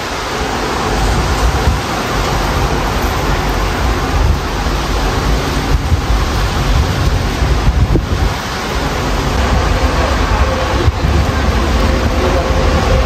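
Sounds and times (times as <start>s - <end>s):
gusty wind buffeting microphone: 0.0s - 13.0s
highway traffic hiss: 0.0s - 13.0s.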